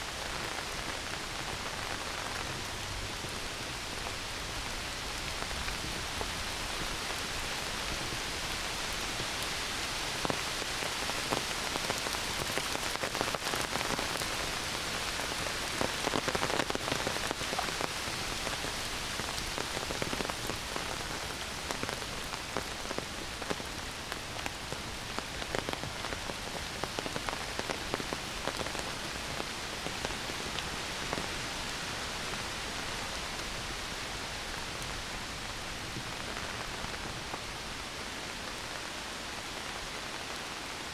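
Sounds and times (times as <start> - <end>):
heavy rain in a forest: 0.0 - 40.9
close raindrops ticking: 0.1 - 39.0.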